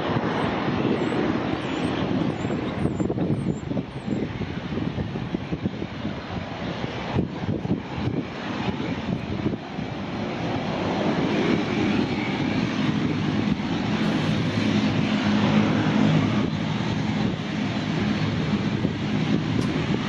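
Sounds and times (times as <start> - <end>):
turboprop propeller drone: 0.0 - 20.0.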